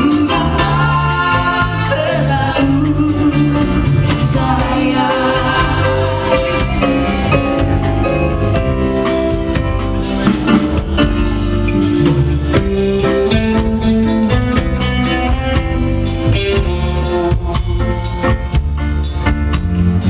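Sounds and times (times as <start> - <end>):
bass: 0.0 - 20.0
drum kit beat: 0.0 - 20.0
guitar: 0.0 - 20.0.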